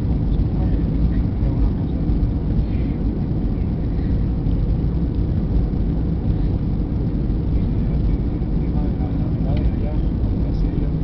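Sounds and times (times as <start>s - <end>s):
jet engine rumble and rushing air: 0.0s - 11.0s.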